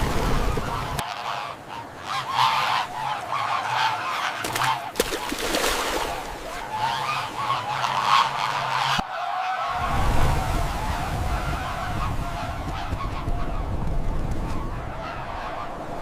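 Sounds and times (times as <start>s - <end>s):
flock of birds calling: 0.4s - 16.0s.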